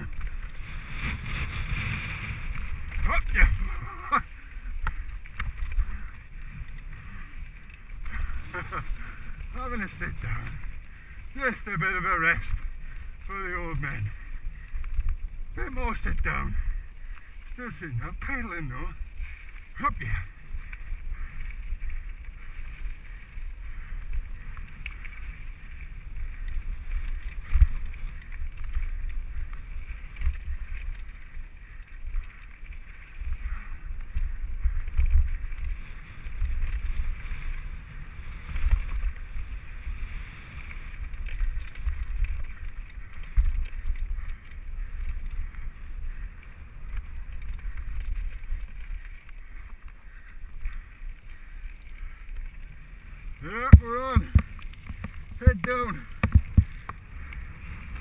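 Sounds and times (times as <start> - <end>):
tyres rolling on gravel: 0.0 - 58.0
wind rumbling on microphone: 0.0 - 58.0.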